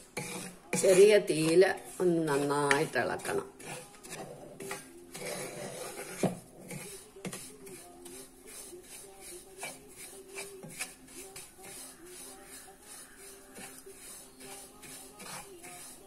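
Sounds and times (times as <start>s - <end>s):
wooden spatula scraping pan: 0.0s - 16.0s.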